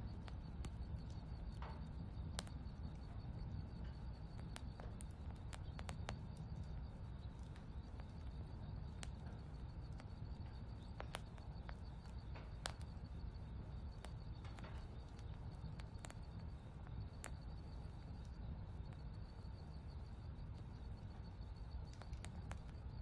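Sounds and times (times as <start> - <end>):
faint high pulsing trill: 0.0 - 23.0
sharp ticks and clicks: 0.0 - 23.0
steady low rumble: 0.0 - 23.0.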